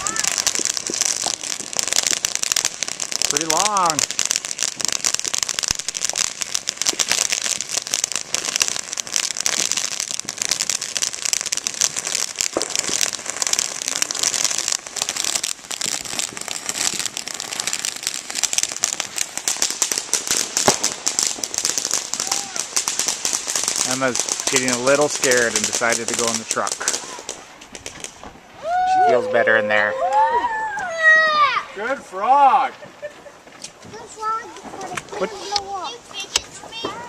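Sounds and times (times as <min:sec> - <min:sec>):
firework crackling: 0:00.0 - 0:37.0.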